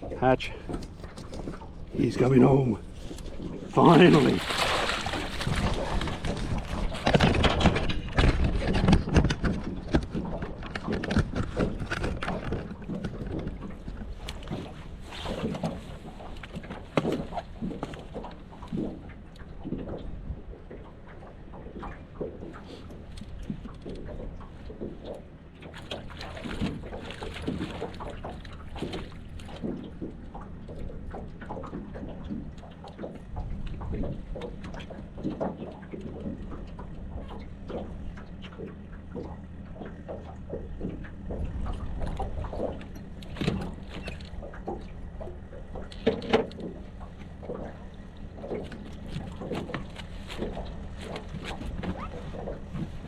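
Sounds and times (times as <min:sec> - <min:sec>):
knocks and clunks on board: 0:00.0 - 0:53.0
steady low hum: 0:00.0 - 0:53.0
water lapping against boat hull: 0:00.0 - 0:53.0.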